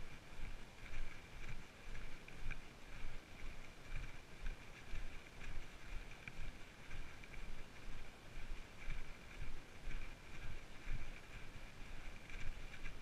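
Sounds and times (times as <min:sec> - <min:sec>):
footsteps on muddy track: 0:00.0 - 0:13.0.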